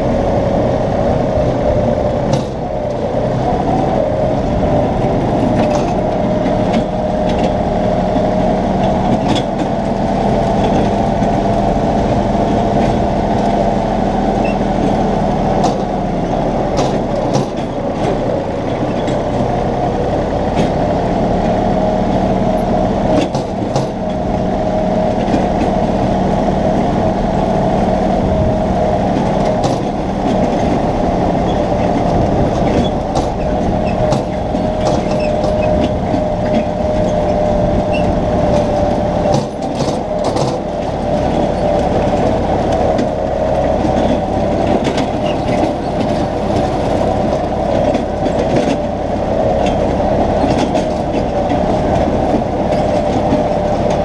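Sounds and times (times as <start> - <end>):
steady whine: 0.0 - 54.0
tractor engine running: 0.0 - 54.0.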